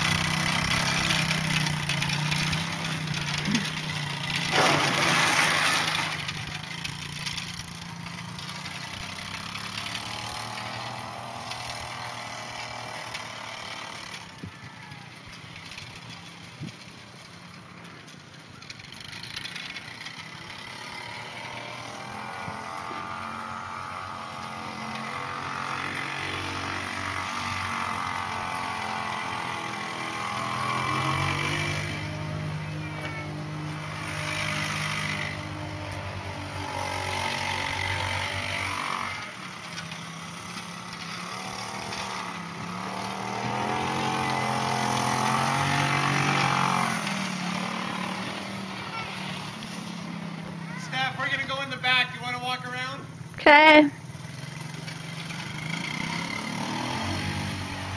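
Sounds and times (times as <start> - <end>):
atv engine revving: 0.0 - 57.9.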